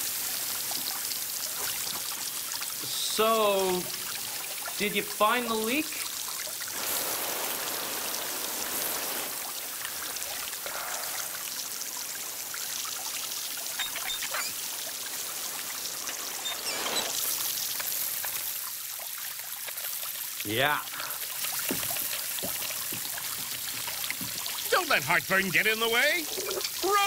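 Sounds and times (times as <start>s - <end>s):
water spraying from leaking pipe: 0.0s - 27.0s.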